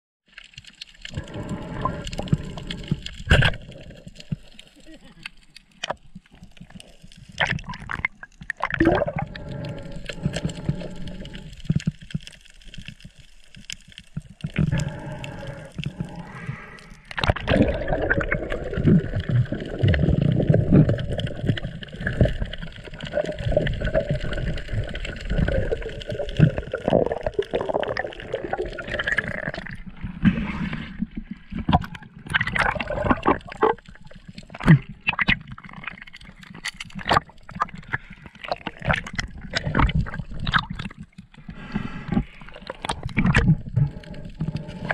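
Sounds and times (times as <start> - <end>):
water gurgling underwater: 0.5 - 44.9.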